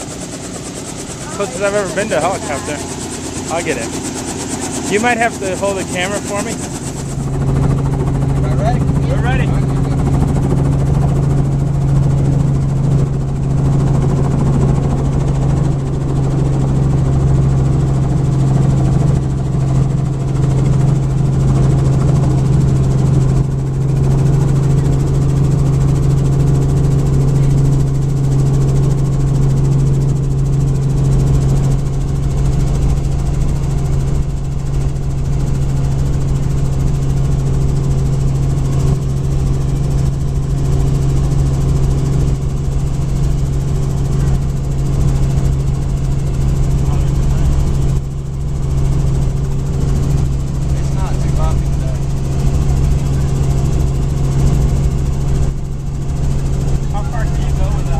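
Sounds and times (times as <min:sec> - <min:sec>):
helicopter engine and rotors: 0:00.0 - 0:57.9.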